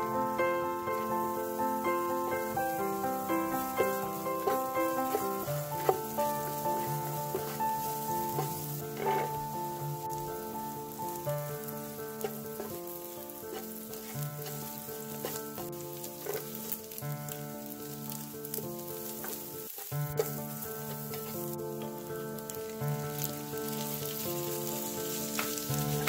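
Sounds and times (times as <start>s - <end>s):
oil sizzling in a frying pan: 0.0s - 26.0s
solo piano music: 0.0s - 26.0s
spatula stirring in a pan: 0.9s - 22.5s, 23.1s - 26.0s.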